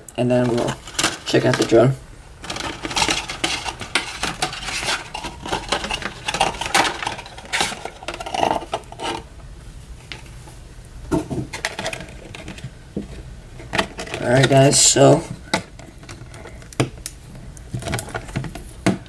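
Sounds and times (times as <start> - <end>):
packaging handling clicks and rustles: 0.1 - 9.2, 11.3 - 19.0.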